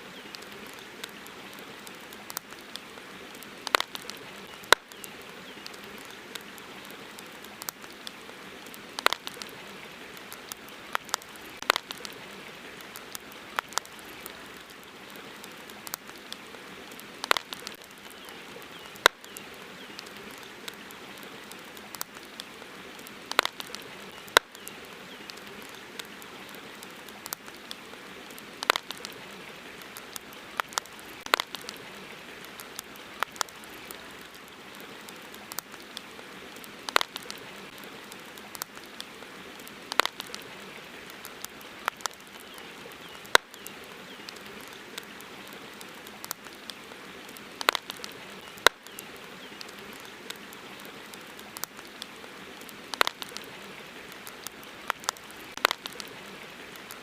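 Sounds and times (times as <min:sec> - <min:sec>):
campfire crackling and popping: 0:00.0 - 0:57.0
river water running: 0:00.0 - 0:57.0.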